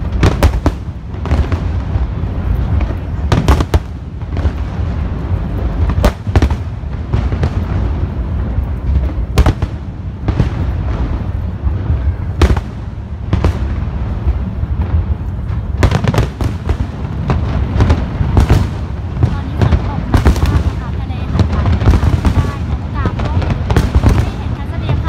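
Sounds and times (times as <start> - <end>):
continuous low rumble: 0.0 - 25.0.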